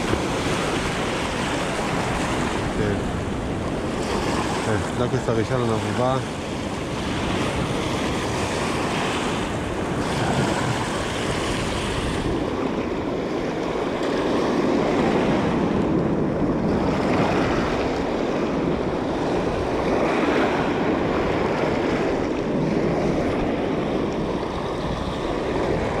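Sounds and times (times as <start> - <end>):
sea surf rushing: 0.0 - 26.0
wind buffeting microphone: 0.0 - 26.0.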